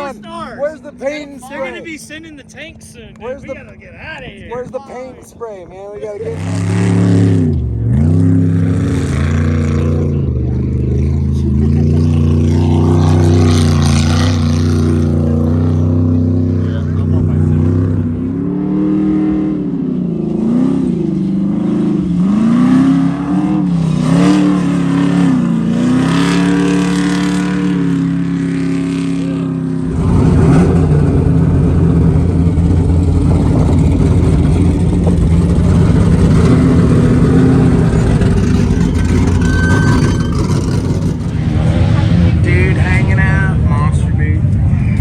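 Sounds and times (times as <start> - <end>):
race car engines revving: 0.0 - 45.0
rough engine noise close by: 0.0 - 45.0.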